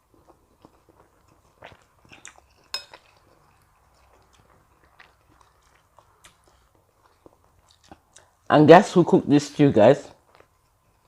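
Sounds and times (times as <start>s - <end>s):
person chewing food: 0.0s - 8.5s, 10.1s - 11.0s.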